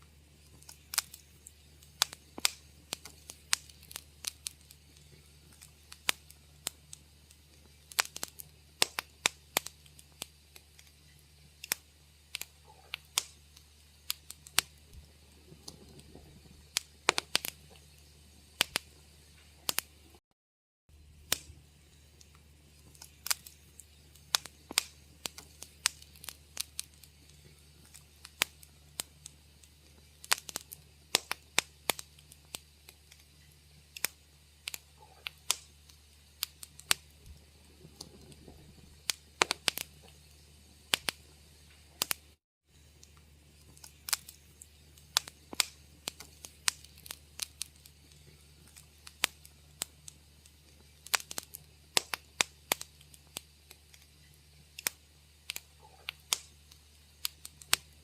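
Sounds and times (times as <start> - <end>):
faint low hum: 0.0 - 20.2, 20.9 - 58.0
wood fire crackling: 0.0 - 20.2, 20.9 - 58.0.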